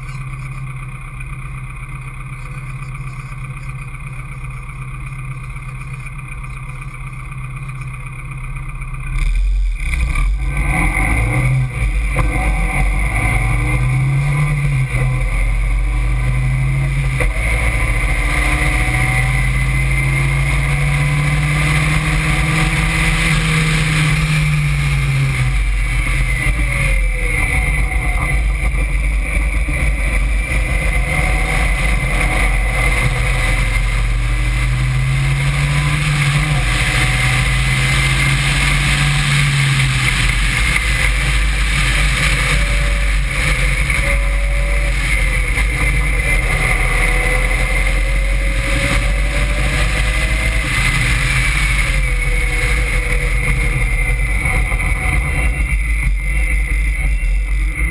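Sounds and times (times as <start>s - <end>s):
car engine pulling hard: 0.0s - 57.9s
wind rumble: 10.3s - 57.9s.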